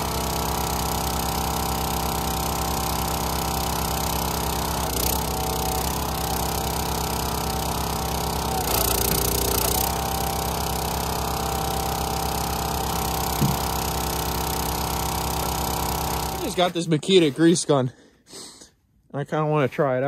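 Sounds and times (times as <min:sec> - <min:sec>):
gas engine running: 0:00.0 - 0:17.4.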